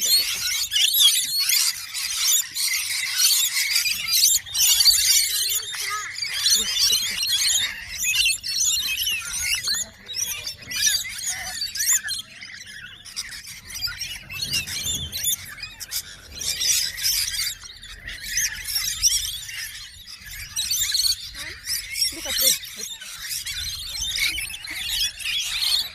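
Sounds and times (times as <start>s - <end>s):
flock of small birds chirping: 0.0s - 25.9s.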